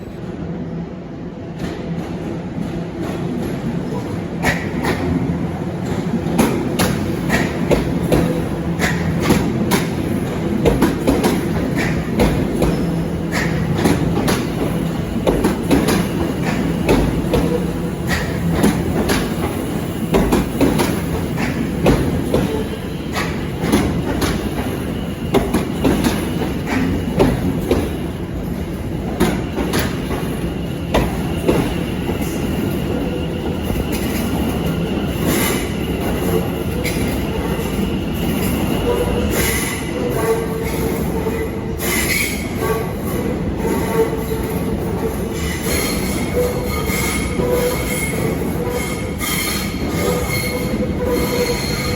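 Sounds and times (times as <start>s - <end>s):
train rumble: 0.0s - 51.9s
train wheels clattering over rail joints: 1.6s - 51.9s.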